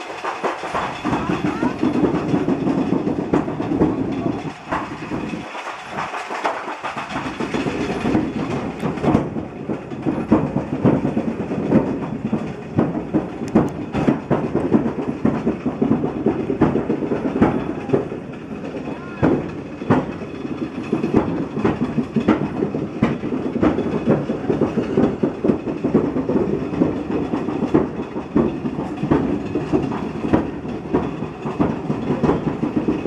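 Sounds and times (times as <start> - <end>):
metallic clanks and knocks: 0.0 - 33.0
turntable bridge rumbling: 0.1 - 6.2, 6.9 - 33.0.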